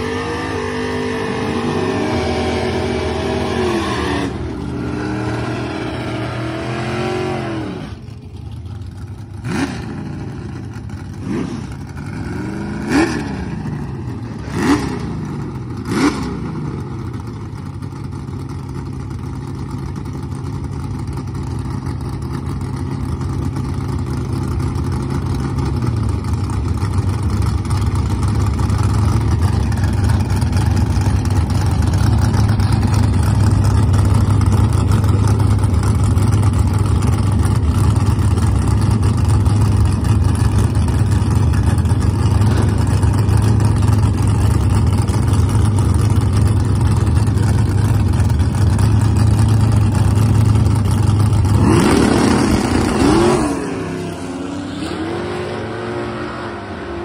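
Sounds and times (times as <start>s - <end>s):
car engine revving: 0.0s - 16.6s, 27.5s - 57.0s
car engine idling: 7.2s - 14.4s, 15.0s - 54.6s.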